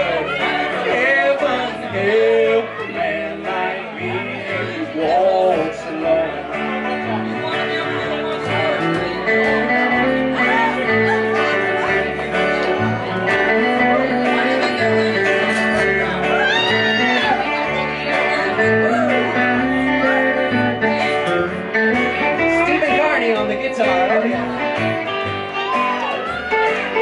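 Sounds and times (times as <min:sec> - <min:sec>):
acoustic guitar: 0:00.0 - 0:27.0
electric guitar lead: 0:00.0 - 0:27.0
upright bass line: 0:00.0 - 0:27.0.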